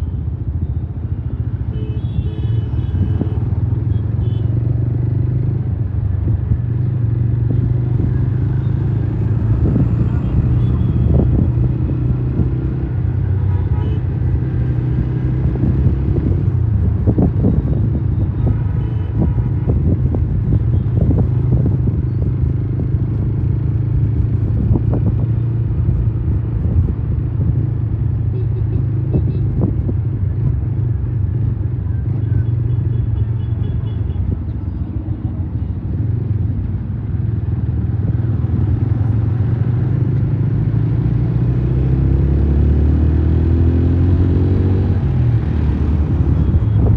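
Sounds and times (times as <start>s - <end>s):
motorcycle engine rumble: 0.0s - 42.5s, 43.4s - 46.9s.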